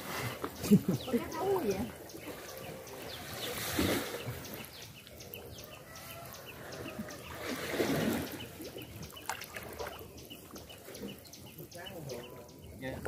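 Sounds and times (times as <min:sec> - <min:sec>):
water sloshing and trickling: 0:00.0 - 0:13.0.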